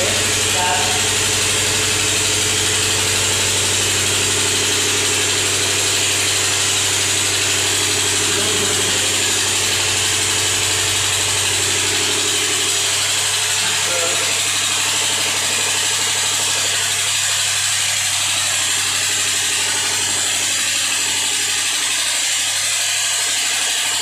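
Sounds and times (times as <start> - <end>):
machine hum with hiss: 0.0 - 24.0.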